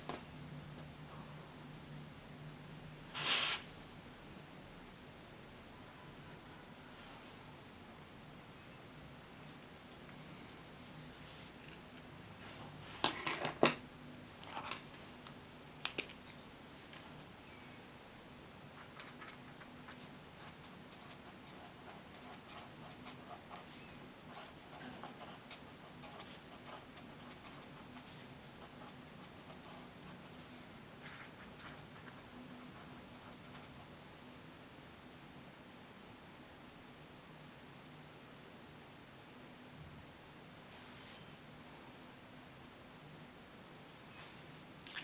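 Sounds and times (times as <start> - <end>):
faint room hum: 0.0 - 45.0.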